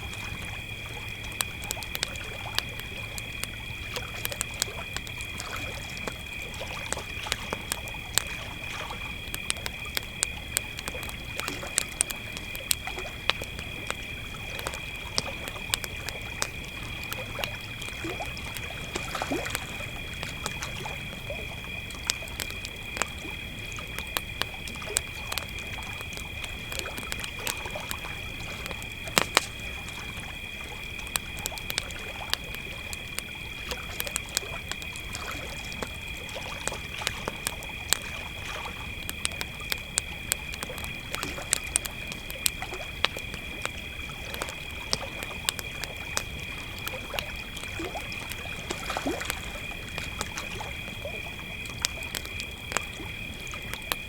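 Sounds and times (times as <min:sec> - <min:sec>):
campfire crackling and popping: 0:00.0 - 0:54.0
crickets trilling: 0:00.0 - 0:54.0.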